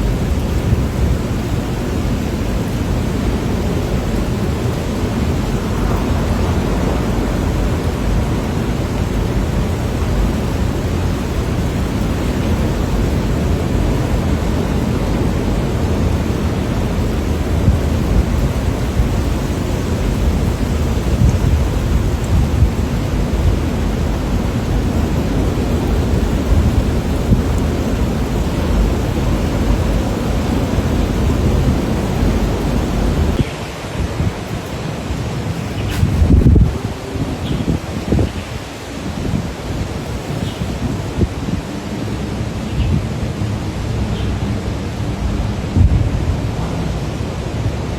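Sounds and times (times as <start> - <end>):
gale and driving rain: 0.0 - 47.9
wind buffeting microphone: 0.0 - 47.9.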